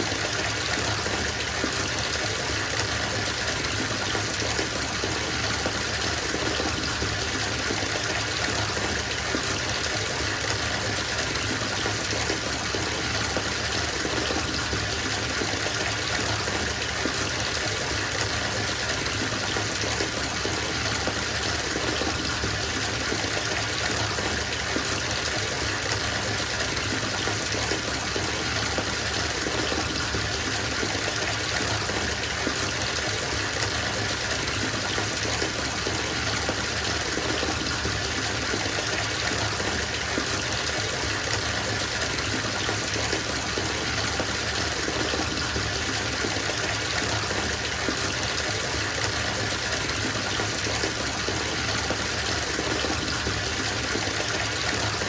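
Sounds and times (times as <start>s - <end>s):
water running from a bathtub tap: 0.0s - 55.0s.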